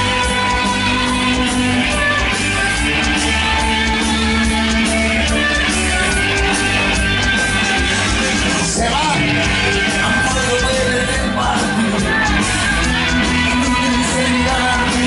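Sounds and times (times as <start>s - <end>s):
drum beat: 0.0s - 15.0s
electric guitar: 0.0s - 15.0s.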